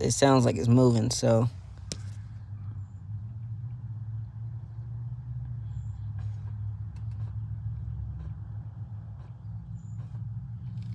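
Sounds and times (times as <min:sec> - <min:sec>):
vehicle engine humming: 0:00.0 - 0:10.9.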